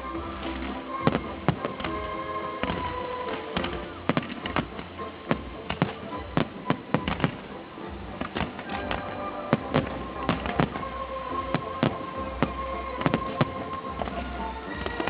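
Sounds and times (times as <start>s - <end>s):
music with held tones: 0.0s - 15.0s
fireworks bangs: 0.3s - 15.0s.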